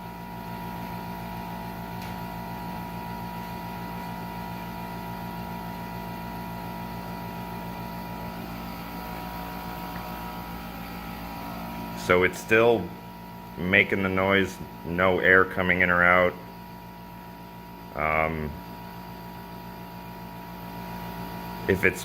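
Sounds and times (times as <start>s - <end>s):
air conditioner electrical hum: 0.0s - 22.0s.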